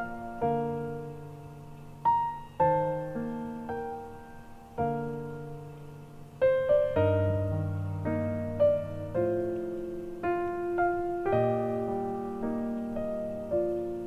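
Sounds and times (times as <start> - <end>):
slow piano notes and chords: 0.0 - 14.0.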